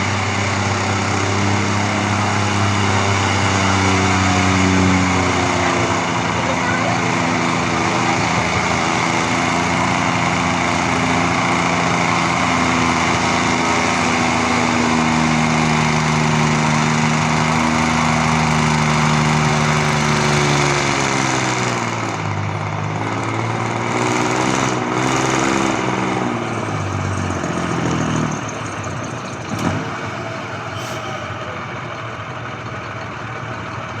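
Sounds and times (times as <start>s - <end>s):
diesel engine labouring: 0.0s - 34.0s.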